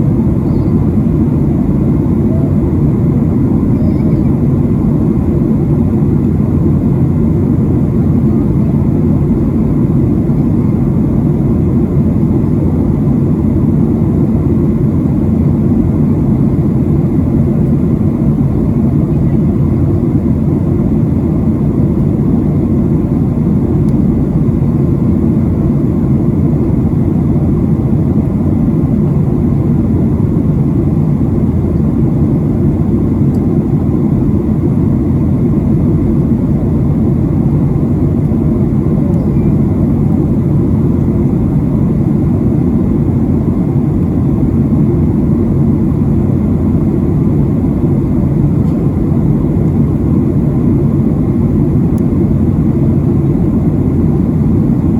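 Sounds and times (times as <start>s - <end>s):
airplane cabin airflow and engines: 0.0s - 54.9s.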